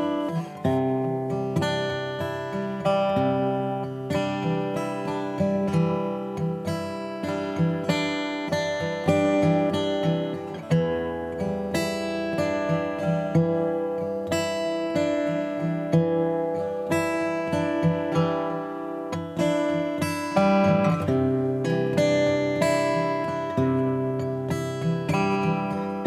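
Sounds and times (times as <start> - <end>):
strummed acoustic guitar music: 0.0 - 26.0.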